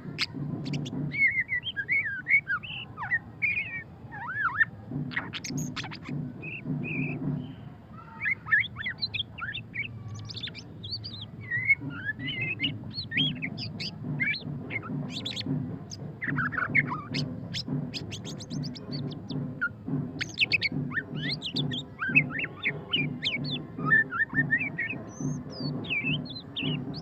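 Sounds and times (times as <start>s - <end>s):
songbird singing whistled phrases: 0.2s - 27.0s.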